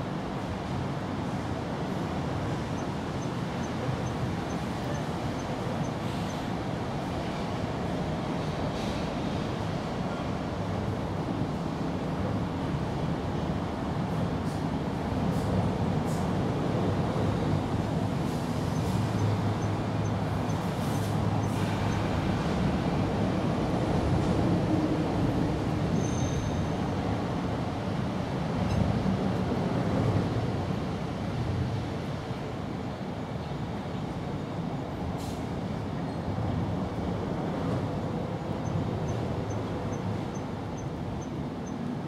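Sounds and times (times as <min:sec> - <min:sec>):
outdoor background rumble: 0:00.0 - 0:42.0.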